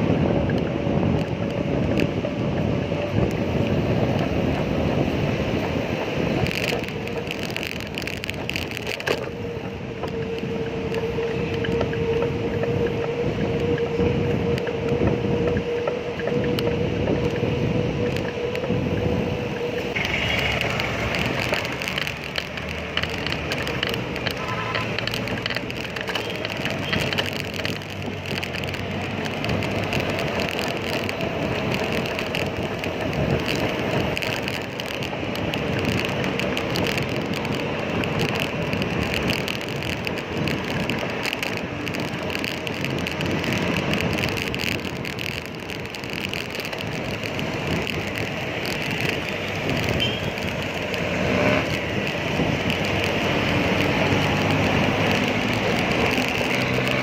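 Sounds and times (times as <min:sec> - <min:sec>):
passing motor vehicles: 0:00.0 - 0:57.0
road noise from bicycle: 0:00.0 - 0:57.0.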